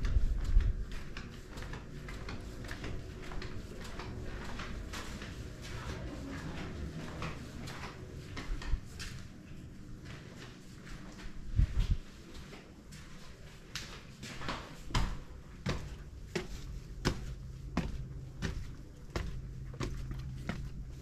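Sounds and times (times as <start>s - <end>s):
footsteps on hard steps: 0.0s - 21.0s.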